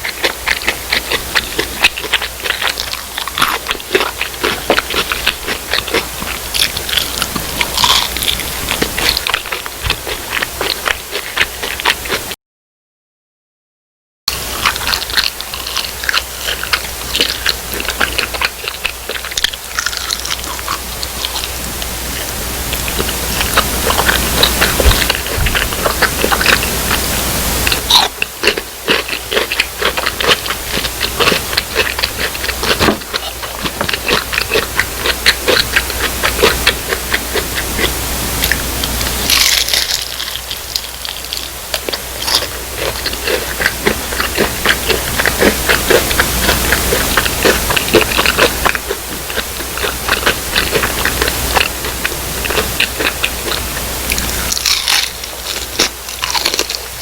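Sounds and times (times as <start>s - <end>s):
chewing crisp fried food: 0.0s - 12.4s, 14.3s - 57.0s.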